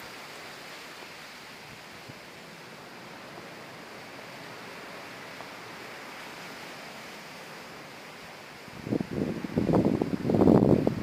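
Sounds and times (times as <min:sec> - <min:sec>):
outdoor ambient hiss: 0:00.0 - 0:11.0.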